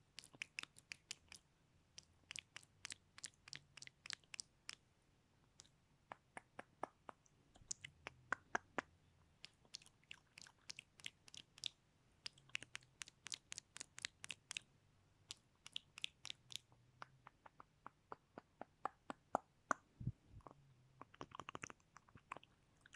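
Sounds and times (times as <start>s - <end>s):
wet mouth clicks and smacks: 0.1s - 1.4s, 2.0s - 4.8s, 5.6s - 14.6s, 15.3s - 19.8s, 20.4s - 22.9s.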